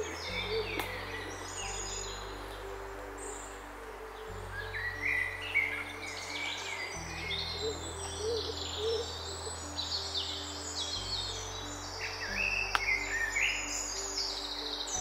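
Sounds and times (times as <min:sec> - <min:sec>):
slow low background music: 0:00.0 - 0:15.0.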